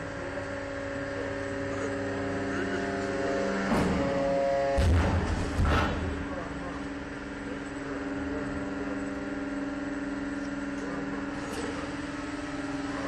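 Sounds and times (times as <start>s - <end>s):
compressor machine hum: 0.0s - 13.0s.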